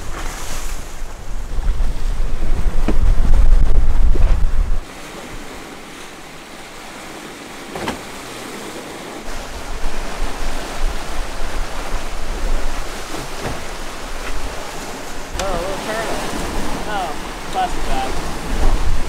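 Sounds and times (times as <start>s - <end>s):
wind buffeting microphone: 0.0s - 5.8s, 9.2s - 19.0s
water rushing past boat hulls: 0.0s - 19.0s.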